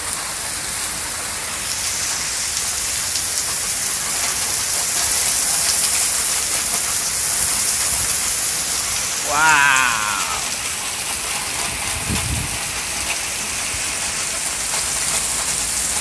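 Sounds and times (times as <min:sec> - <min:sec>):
heavy rain pouring: 0:02.2 - 0:16.0.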